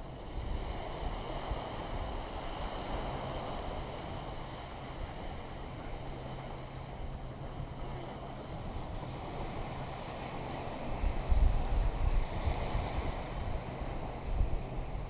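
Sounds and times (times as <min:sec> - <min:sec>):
steady low hum: 0:00.0 - 0:15.0
wind buffeting microphone: 0:00.0 - 0:15.0.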